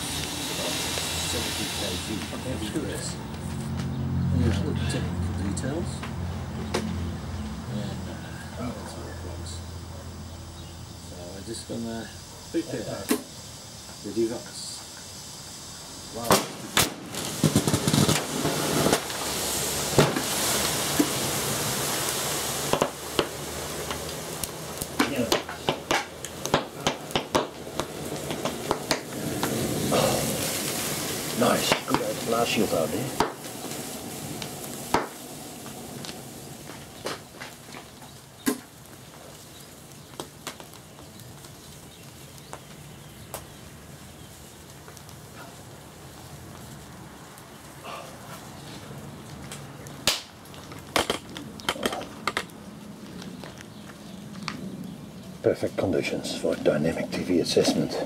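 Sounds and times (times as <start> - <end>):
pops and crackles of fire: 0.0 - 4.7, 6.0 - 7.0, 12.5 - 58.0
hissing rush: 0.0 - 58.0.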